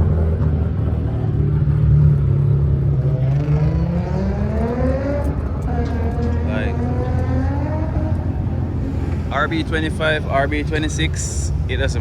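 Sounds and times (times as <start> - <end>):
car engine revving: 0.8 - 12.0.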